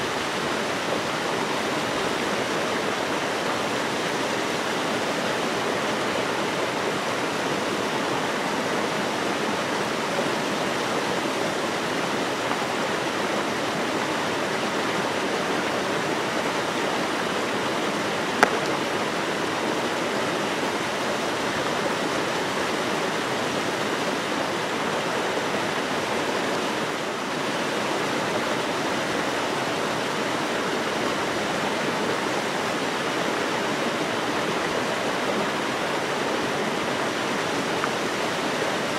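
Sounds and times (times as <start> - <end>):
waterfall cascading over rocks: 0.0 - 38.9.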